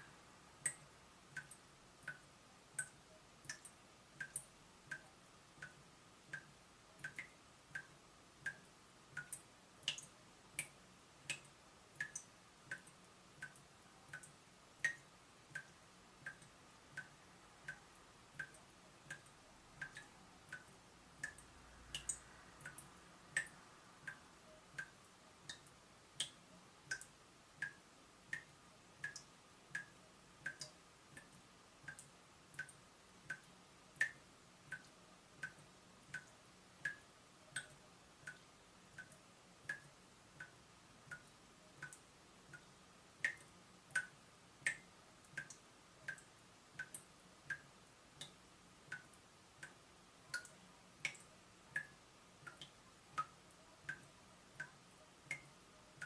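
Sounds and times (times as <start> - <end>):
water dripping from tap: 0.0 - 56.0.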